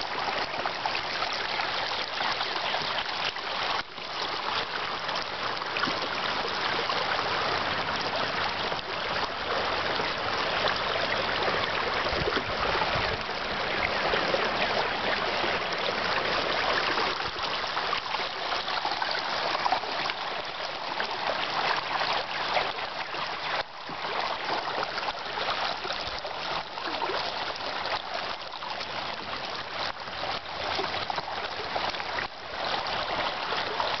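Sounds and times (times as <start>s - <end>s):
river water babbling over rocks: 0.0s - 34.0s.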